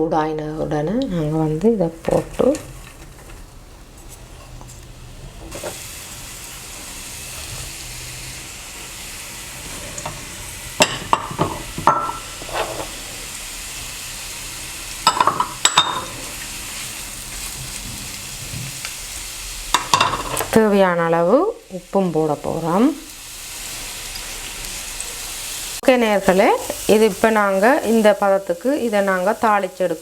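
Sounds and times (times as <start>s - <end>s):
vegetables sizzling in oil: 0.6s - 30.0s.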